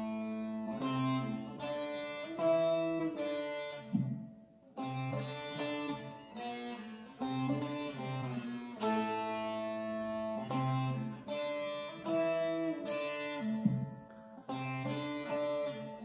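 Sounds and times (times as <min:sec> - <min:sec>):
lute melody picked notes: 0:00.0 - 0:16.0.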